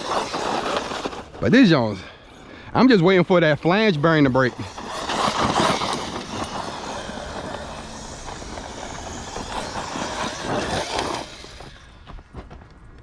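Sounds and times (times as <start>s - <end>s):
toy car motor and tyres on dirt: 0.0s - 13.0s.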